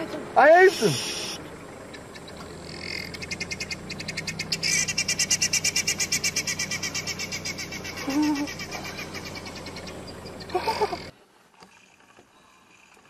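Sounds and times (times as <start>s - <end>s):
bird chattering call: 0.6s - 11.1s.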